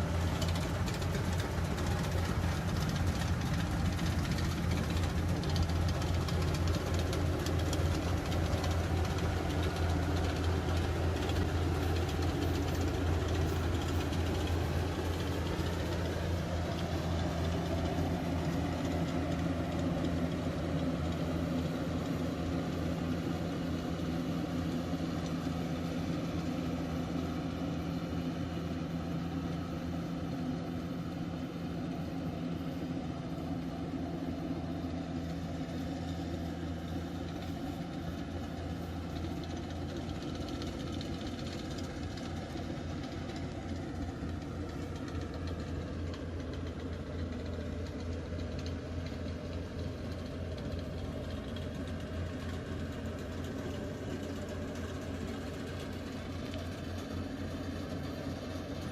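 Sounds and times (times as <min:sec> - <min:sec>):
harvesting machine engine running: 0:00.0 - 0:58.9.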